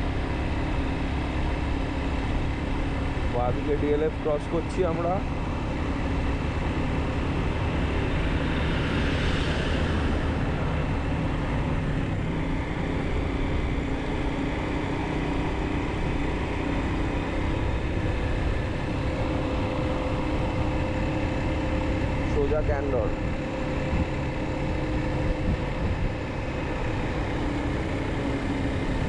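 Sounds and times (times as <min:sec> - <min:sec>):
motorcycle engine running: 0:00.0 - 0:29.0
road noise: 0:00.0 - 0:29.0
wind: 0:00.0 - 0:29.0.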